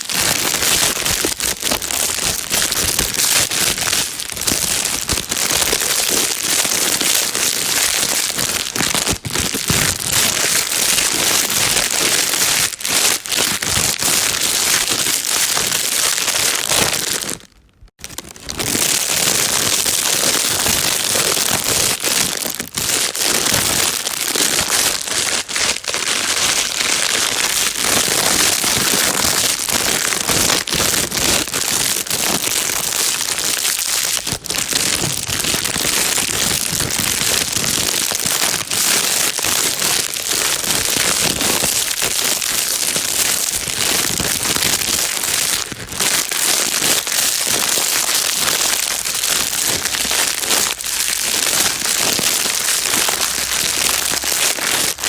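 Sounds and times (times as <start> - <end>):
plastic bag crinkling: 0.0 - 55.0.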